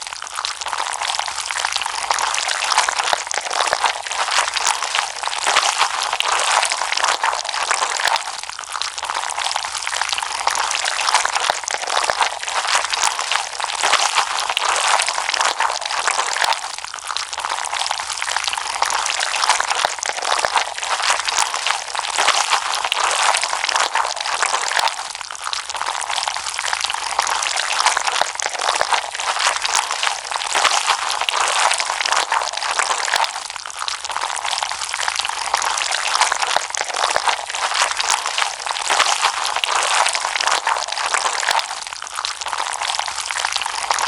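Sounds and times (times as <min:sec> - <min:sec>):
slime squishing and crackling: 0:00.0 - 0:44.0.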